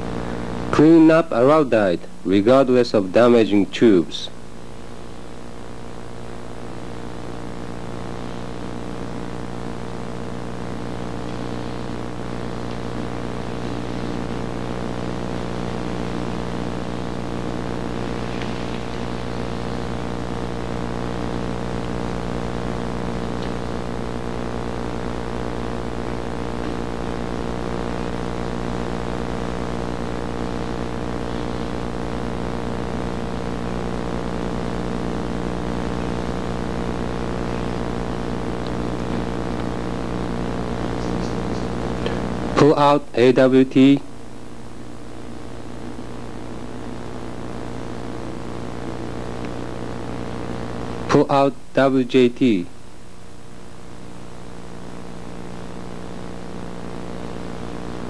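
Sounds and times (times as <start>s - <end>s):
faint scratchy sounds: 0.0s - 58.0s
steady hum of tones: 0.0s - 58.0s.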